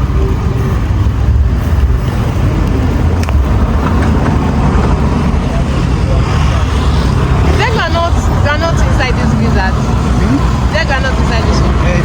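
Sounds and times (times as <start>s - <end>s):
low rumble of street noise: 0.0s - 12.0s.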